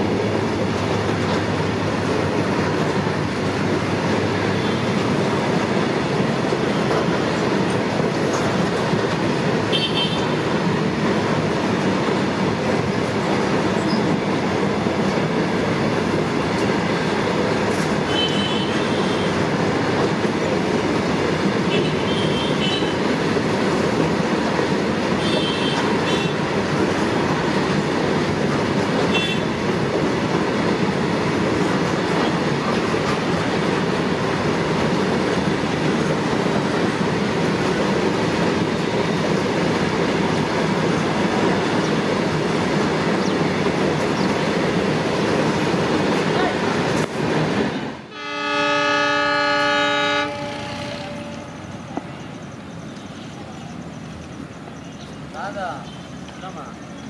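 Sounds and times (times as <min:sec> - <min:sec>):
freight wagons rumbling on rail: 0:00.0 - 0:57.0.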